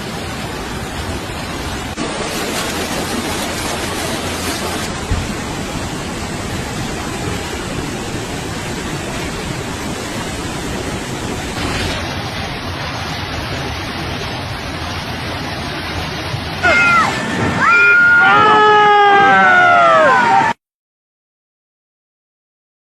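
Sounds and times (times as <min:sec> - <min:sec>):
flooded river roaring: 0:00.0 - 0:20.6.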